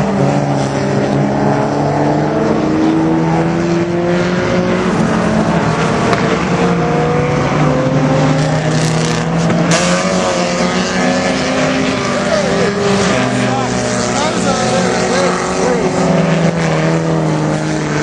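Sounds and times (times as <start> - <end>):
race car engines at speed: 0.0 - 18.0.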